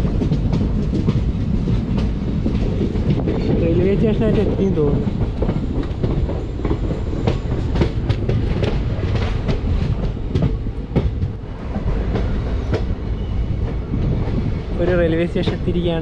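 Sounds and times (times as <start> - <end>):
train rumbling on track: 0.0 - 16.0
wheels clacking over rail joints: 0.0 - 16.0.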